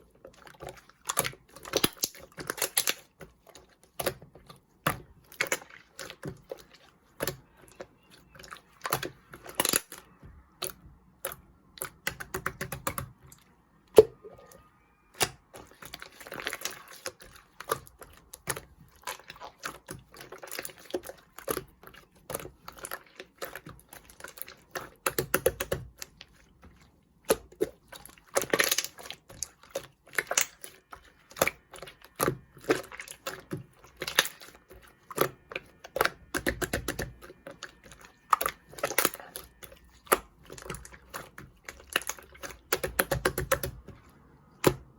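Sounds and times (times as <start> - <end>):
slime squishing: 0.0 - 44.9.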